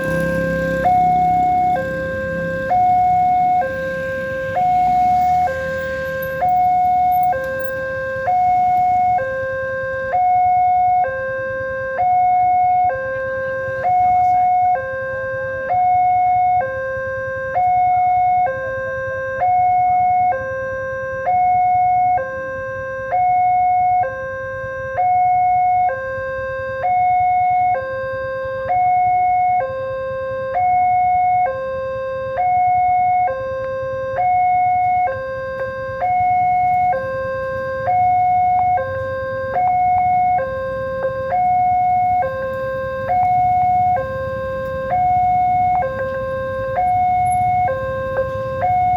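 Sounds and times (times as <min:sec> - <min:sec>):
level crossing two-tone alarm: 0:00.0 - 0:48.9.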